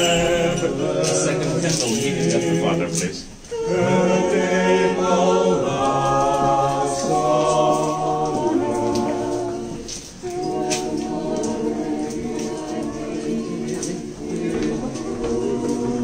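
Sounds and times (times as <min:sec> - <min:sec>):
congregation singing a cappella: 0:00.0 - 0:16.0.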